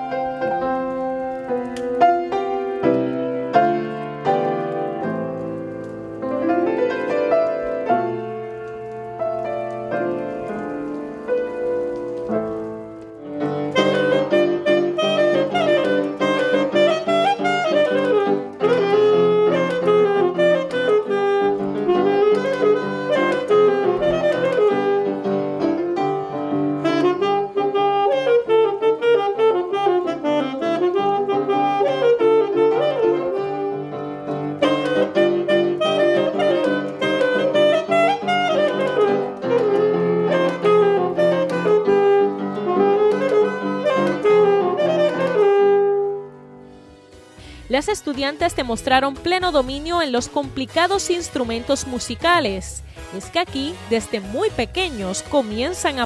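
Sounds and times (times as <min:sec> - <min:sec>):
grand piano accompaniment: 0:00.0 - 0:56.0
saxophone melody: 0:00.0 - 0:56.0.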